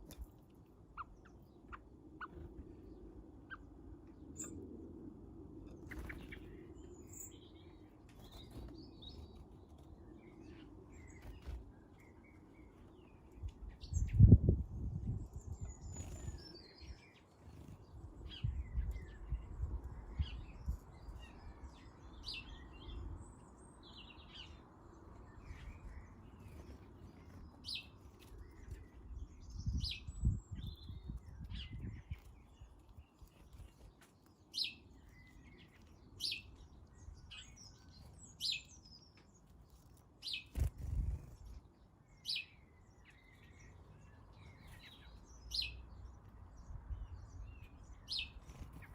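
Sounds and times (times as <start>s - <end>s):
small birds chirping: 0.0s - 4.8s, 5.6s - 48.9s.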